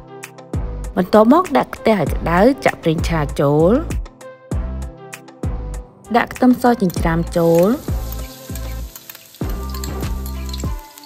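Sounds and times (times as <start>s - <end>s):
instrumental music with low beat: 2.1s - 11.0s.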